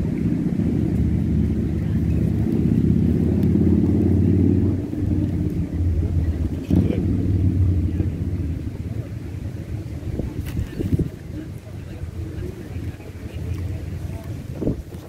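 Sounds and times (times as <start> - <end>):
engine droning low: 0.0 - 15.0.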